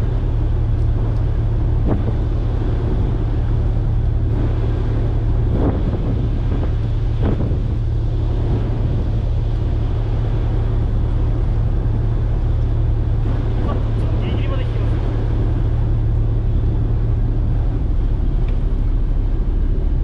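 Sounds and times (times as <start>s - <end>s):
engine idling: 0.0s - 20.0s
wind noise on microphone: 0.0s - 20.0s.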